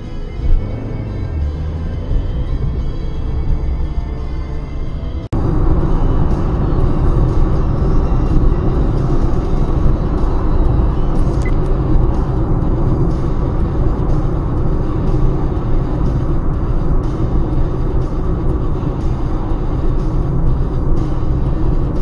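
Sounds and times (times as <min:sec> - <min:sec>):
road and engine noise inside car: 0:00.0 - 0:22.0.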